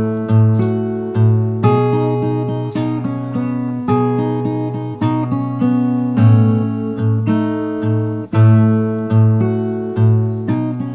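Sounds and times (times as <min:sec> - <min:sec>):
acoustic guitar playing: 0:00.0 - 0:10.9.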